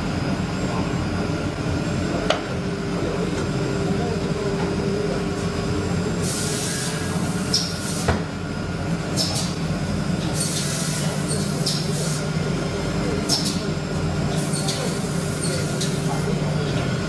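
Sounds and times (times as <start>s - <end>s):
woodworking machine hum: 0.0s - 17.0s.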